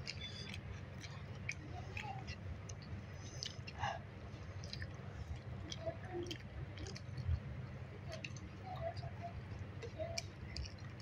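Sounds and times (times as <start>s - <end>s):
low steady hum: 0.0s - 11.0s
person chewing soft food: 0.0s - 11.0s.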